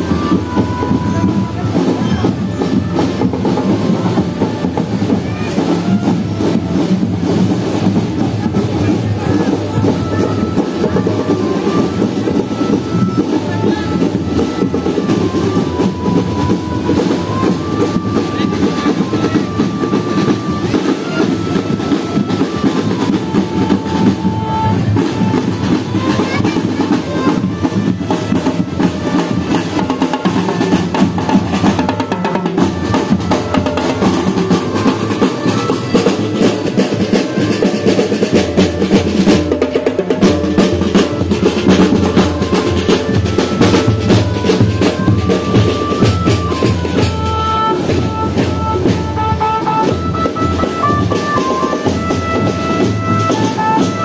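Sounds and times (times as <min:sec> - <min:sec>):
snare and bass drums: 0:00.0 - 0:54.0.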